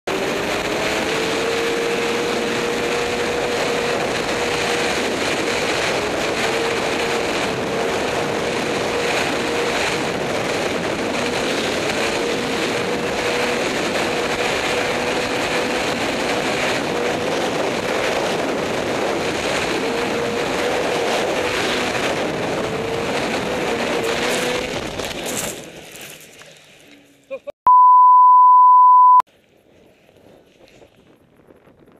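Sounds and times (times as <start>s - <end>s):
snowmobile engine at full throttle: 0.0s - 25.8s
wind rushing over microphone: 0.1s - 25.3s, 30.1s - 31.9s.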